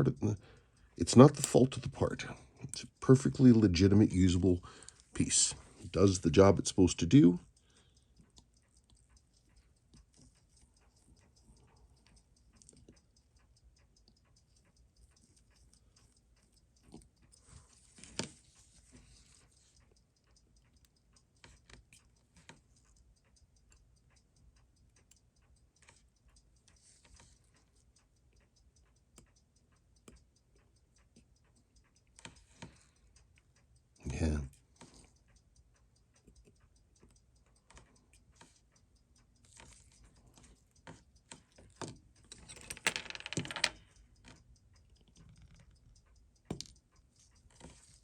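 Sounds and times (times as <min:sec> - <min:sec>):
small clicks of watchmaker's tools: 0:00.0 - 0:48.0.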